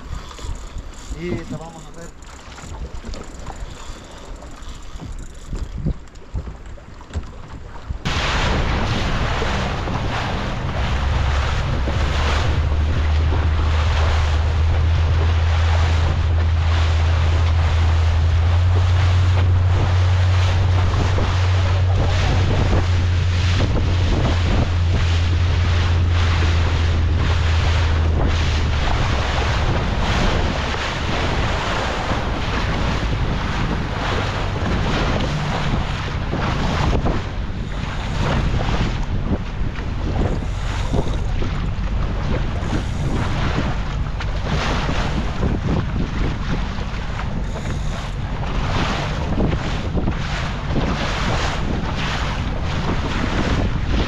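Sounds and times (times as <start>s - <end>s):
boat engine humming: 0.0s - 54.0s
rushing water: 0.0s - 54.0s
wind buffeting microphone: 0.0s - 54.0s.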